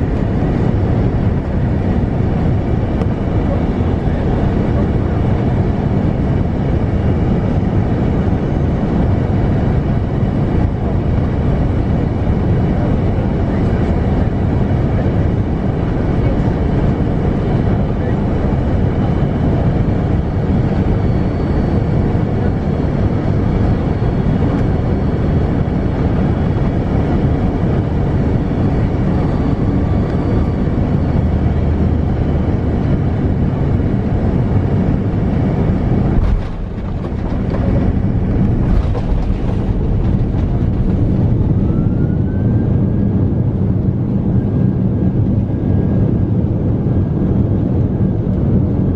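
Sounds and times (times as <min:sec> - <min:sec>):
aircraft cabin roar: 0:00.0 - 0:48.9
jet engine whine: 0:00.0 - 0:48.9
runway rumble: 0:00.0 - 0:48.9.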